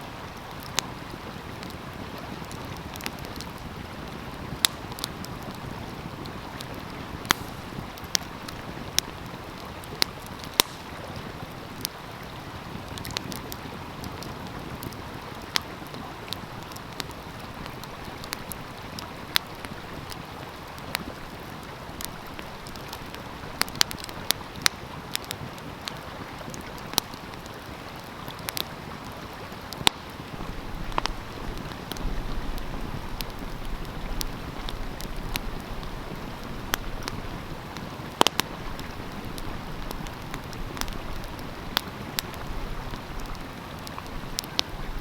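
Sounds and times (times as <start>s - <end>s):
wood fire crackling and popping: 0.1s - 45.0s.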